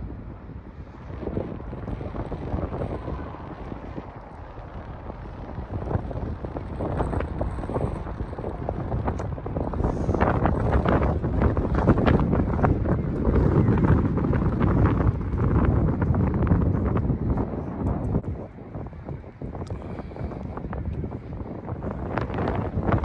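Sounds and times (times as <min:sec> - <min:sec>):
wind buffeting the microphone: 0:00.0 - 0:23.0.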